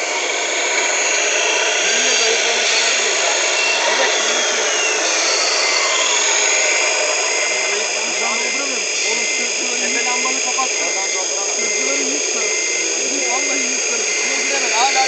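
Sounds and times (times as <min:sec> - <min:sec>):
hydraulic pump whining: 0:00.0 - 0:15.0.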